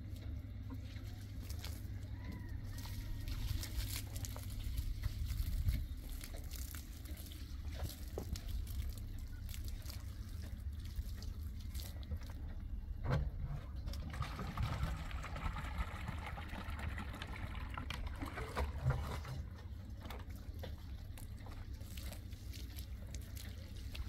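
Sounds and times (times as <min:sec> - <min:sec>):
water trickling and splashing: 0:00.0 - 0:12.8, 0:13.8 - 0:24.0
steady low rumble: 0:00.0 - 0:24.0.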